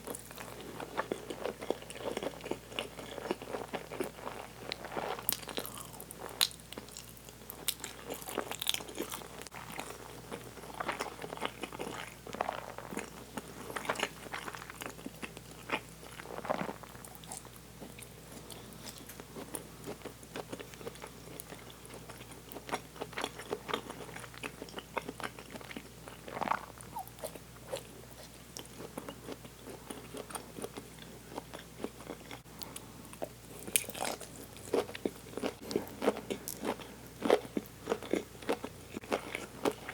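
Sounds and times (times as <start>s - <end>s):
person chewing noodles: 0.1s - 39.9s.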